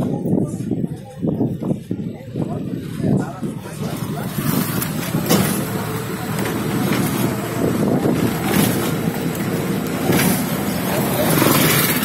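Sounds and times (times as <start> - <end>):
wind buffeting microphone: 0.0 - 12.0
vehicle crossing a bridge: 1.8 - 12.0.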